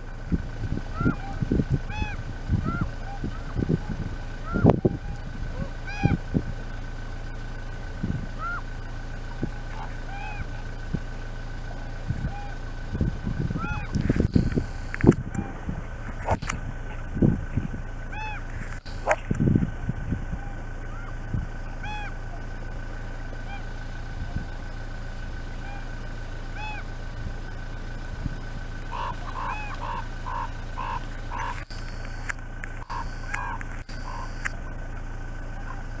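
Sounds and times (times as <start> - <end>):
low rumble: 0.0 - 36.0
ravens croaking: 0.0 - 36.0.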